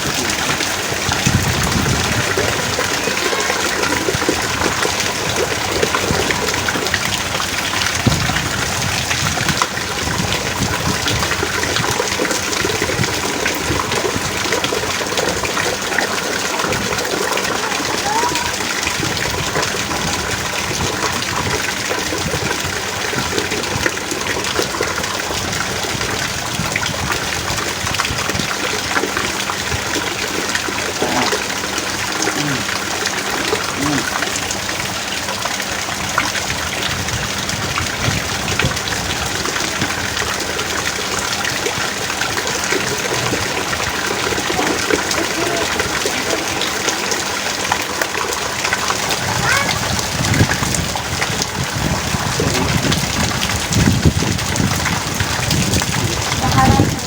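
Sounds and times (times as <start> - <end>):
gushing water runoff: 0.0 - 57.0
heavy rain pouring: 0.0 - 57.0.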